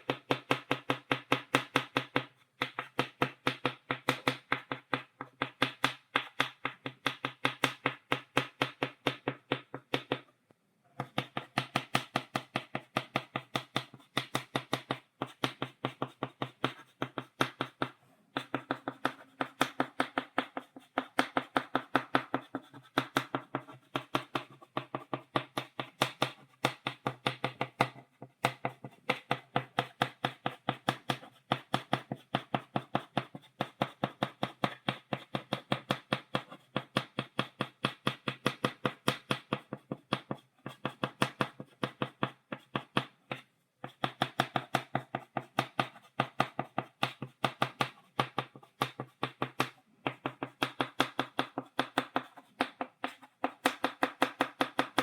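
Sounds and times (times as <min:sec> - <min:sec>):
chalk tapping on blackboard: 0:00.0 - 0:10.3, 0:11.0 - 0:55.0.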